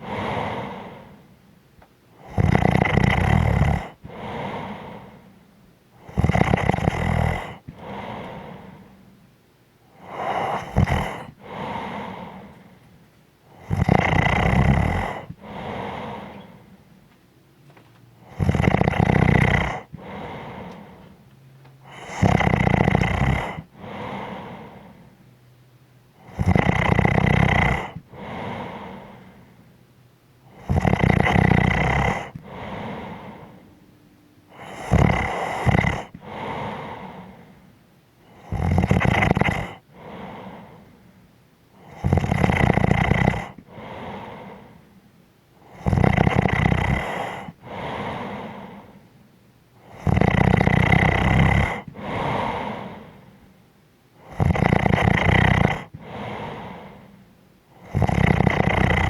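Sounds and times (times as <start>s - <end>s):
person snoring: 0.0s - 1.3s, 2.2s - 5.4s, 6.0s - 9.0s, 9.9s - 12.8s, 13.5s - 16.8s, 18.2s - 21.2s, 21.8s - 25.1s, 26.2s - 29.5s, 30.5s - 33.6s, 34.5s - 41.0s, 41.8s - 44.9s, 45.6s - 49.1s, 49.8s - 53.5s, 54.2s - 59.0s
soft breath: 0.0s - 1.5s, 3.5s - 9.2s, 9.9s - 14.1s, 14.7s - 25.5s, 27.7s - 29.8s, 30.5s - 33.9s, 34.5s - 50.2s, 50.9s - 59.0s.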